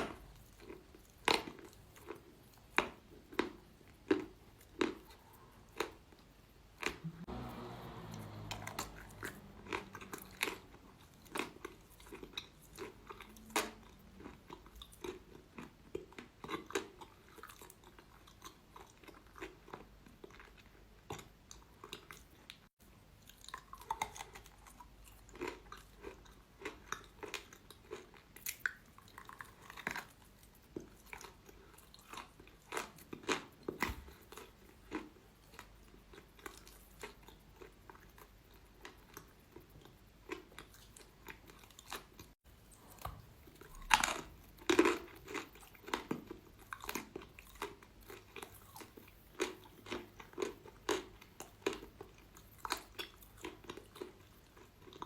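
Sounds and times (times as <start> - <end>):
chewing crunchy chalk: 0.4 - 22.3, 23.4 - 55.0.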